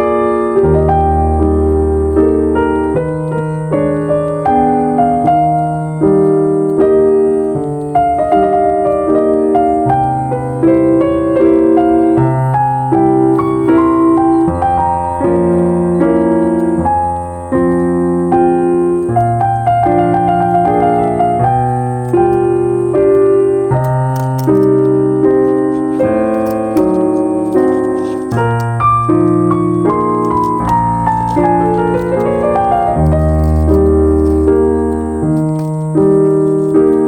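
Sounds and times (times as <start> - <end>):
calm solo piano: 0.0 - 37.0.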